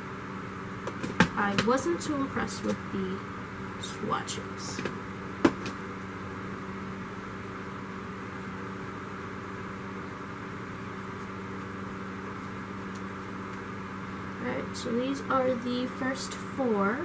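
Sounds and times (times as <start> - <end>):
room noise hum and hiss: 0.0 - 17.0.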